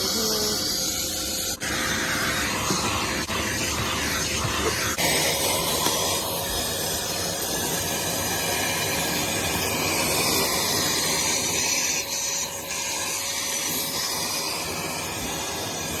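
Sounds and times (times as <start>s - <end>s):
shop vacuum running: 0.0s - 16.0s.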